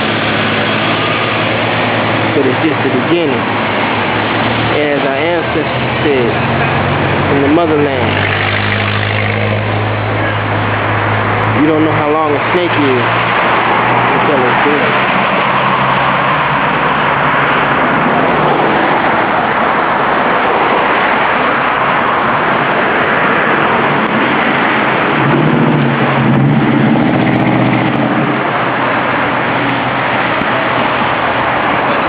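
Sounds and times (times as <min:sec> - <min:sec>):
heavy vehicle engine passing: 0:00.0 - 0:32.0
road traffic passing: 0:00.0 - 0:32.0.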